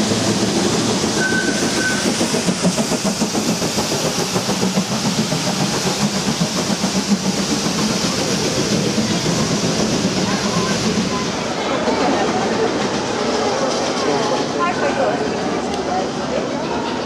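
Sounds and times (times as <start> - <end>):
steam locomotive exhaust beats: 0.0 - 16.6
carriages rumbling on rails: 0.0 - 17.0.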